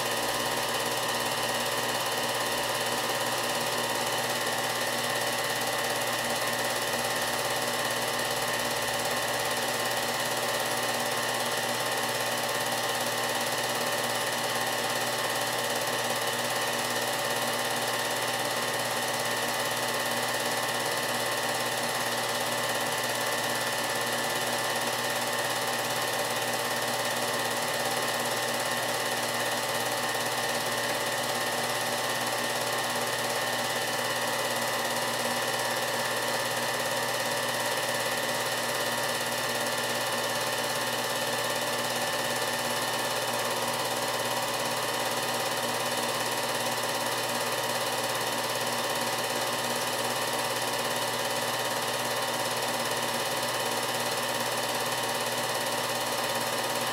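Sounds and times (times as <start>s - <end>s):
film projector whirring: 0.0s - 56.9s.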